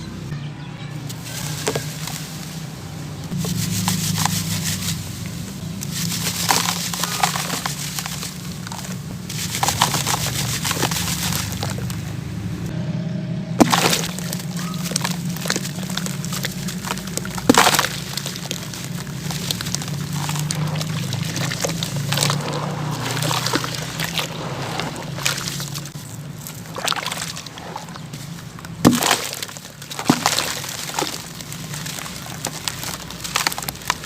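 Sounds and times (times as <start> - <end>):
sand-cement chunks crumbling: 1.1 - 12.2, 13.6 - 34.0.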